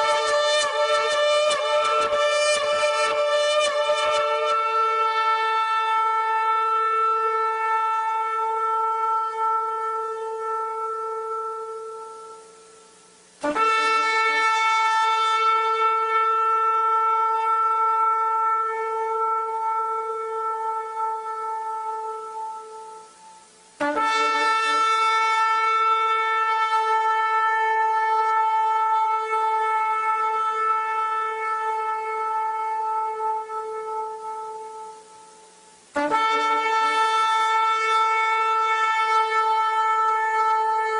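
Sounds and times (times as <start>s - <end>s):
ram's horn long blast: 0.0s - 40.9s.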